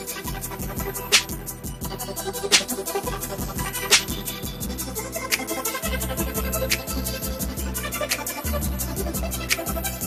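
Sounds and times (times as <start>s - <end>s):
hip hop music: 0.0s - 10.0s.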